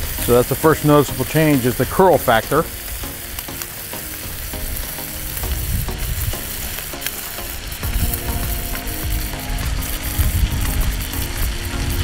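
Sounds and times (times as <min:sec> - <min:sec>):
bacon sizzling on griddle: 0:00.0 - 0:12.0.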